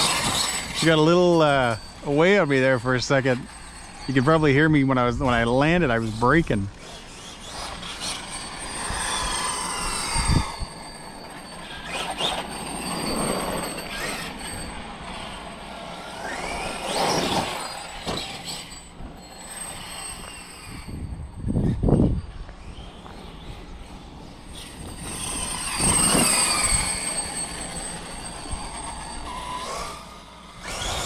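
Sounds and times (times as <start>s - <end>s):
electric motor whine: 0.0s - 31.0s.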